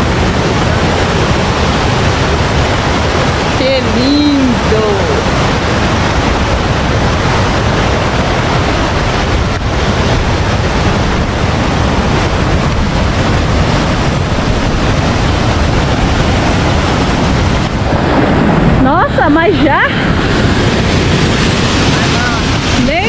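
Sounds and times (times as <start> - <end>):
river rushing over rock ledges: 0.0 - 23.0.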